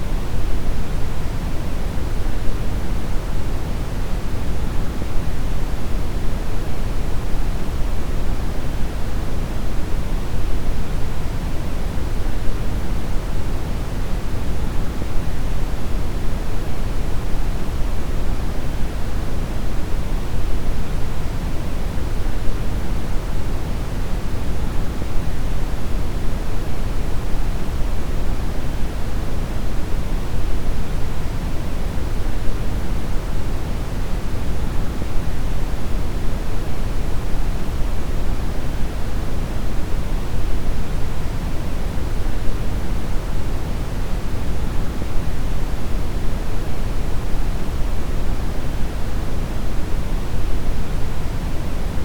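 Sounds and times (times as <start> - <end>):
brown noise hiss: 0.0 - 52.0.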